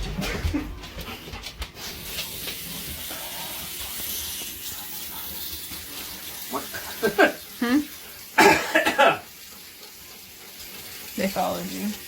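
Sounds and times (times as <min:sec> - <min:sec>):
water running into a sink: 0:02.0 - 0:12.0.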